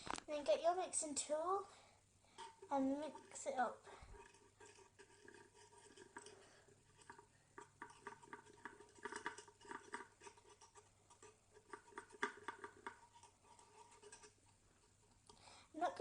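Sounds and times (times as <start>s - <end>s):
stirrer clicking and squelching: 2.3s - 16.0s.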